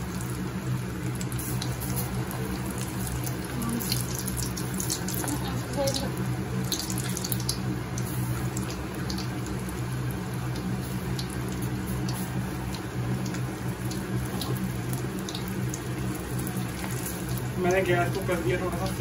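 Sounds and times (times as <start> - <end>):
food deep-frying in oil: 0.0 - 19.0
steady low hum: 0.0 - 19.0.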